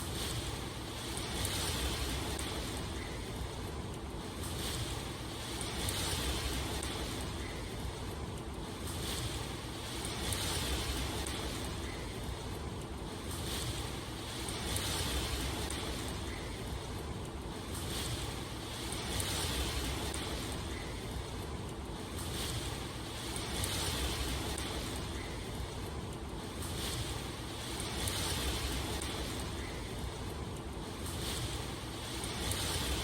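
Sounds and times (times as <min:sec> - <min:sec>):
rushing water: 0:04.2 - 0:08.0, 0:08.7 - 0:33.0.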